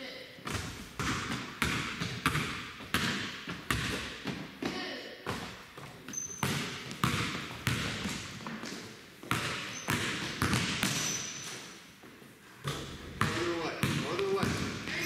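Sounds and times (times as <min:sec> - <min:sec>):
basketball bouncing on wood floor: 0:00.5 - 0:11.6, 0:12.6 - 0:15.0.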